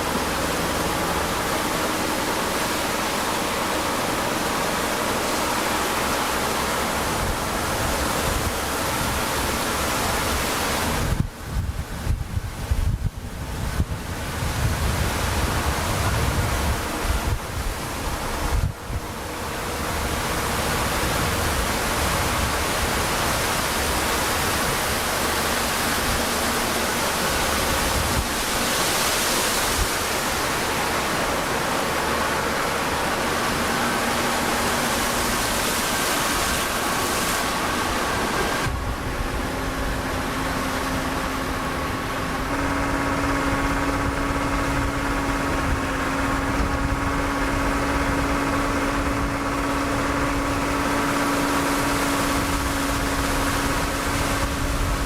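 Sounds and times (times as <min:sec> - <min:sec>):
loud rushing noise: 0:00.0 - 0:55.0
low steady hum: 0:00.0 - 0:55.0.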